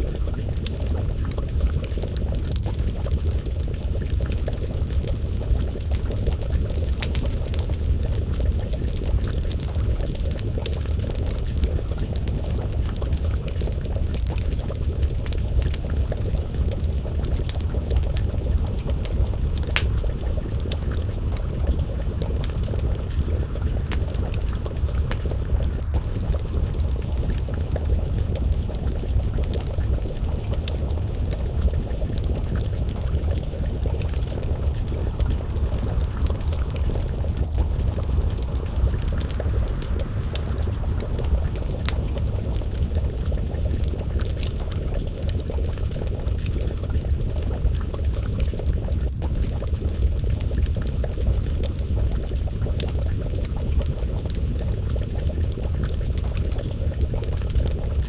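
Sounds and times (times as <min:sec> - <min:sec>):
stew bubbling: 0:00.0 - 0:58.0
wood fire crackling: 0:00.0 - 0:58.0.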